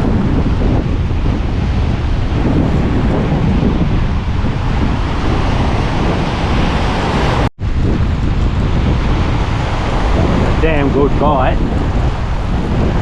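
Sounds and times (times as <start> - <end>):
breaking surf: 0.0 - 13.0
wind buffeting microphone: 0.0 - 13.0.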